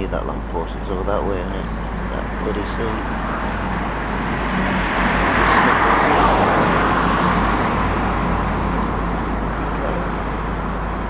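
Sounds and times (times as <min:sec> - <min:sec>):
low traffic rumble: 0:00.0 - 0:11.0
vehicle passing: 0:00.0 - 0:11.0.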